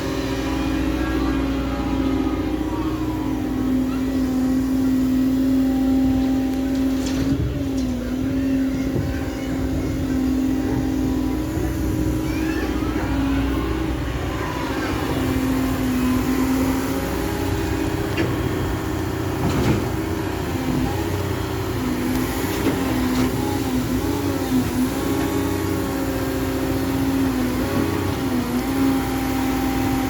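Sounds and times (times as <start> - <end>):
excavator engine and hydraulics: 0.0 - 30.0.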